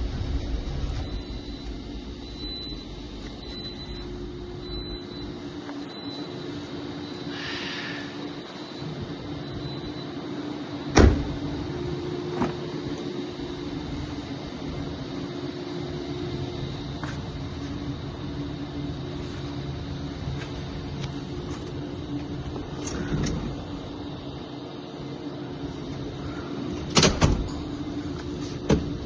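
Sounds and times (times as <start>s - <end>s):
car idling: 0.0s - 7.3s, 8.2s - 29.0s.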